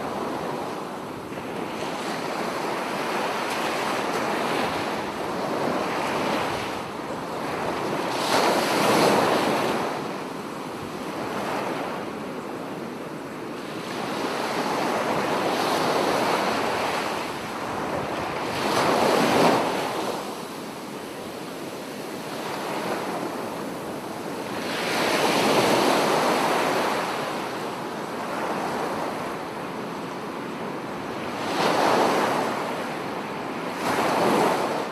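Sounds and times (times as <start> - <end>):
ocean waves washing: 0.0 - 34.9.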